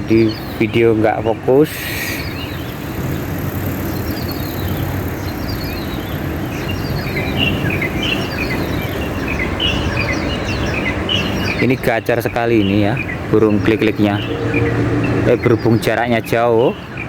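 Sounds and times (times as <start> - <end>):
distant bird chirping song: 1.9 - 17.0.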